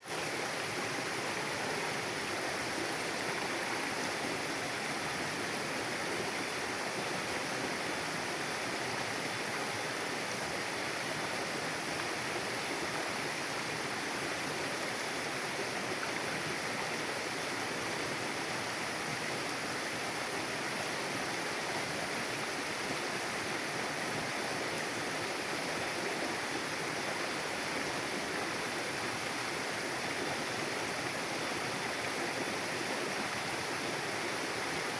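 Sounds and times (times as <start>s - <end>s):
river flowing over rocks: 0.0s - 34.9s.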